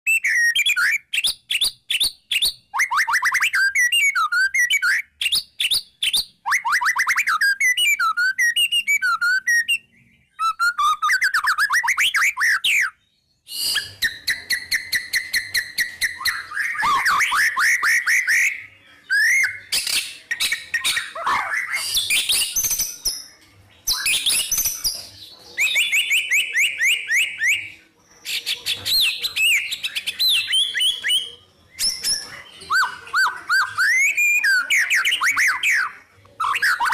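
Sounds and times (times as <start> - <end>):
songbird singing: 0.1 - 36.9.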